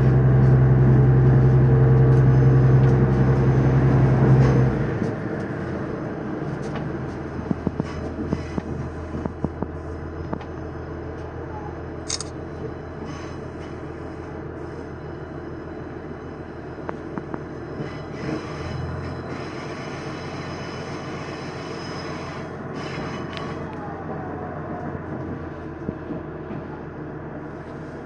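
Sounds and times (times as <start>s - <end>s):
railcar engine drone: 0.0s - 28.0s
wheel-on-rail rumble: 0.0s - 28.0s.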